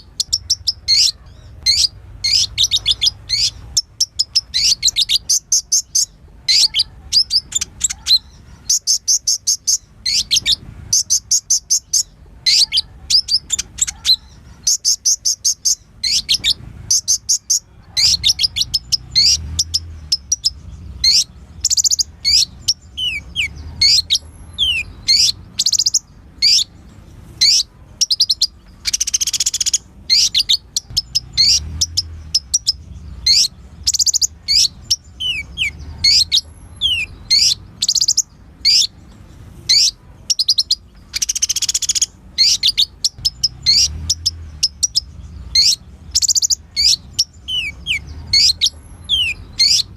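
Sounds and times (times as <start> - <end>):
sunbird trilling and chirping: 0.0 - 49.9.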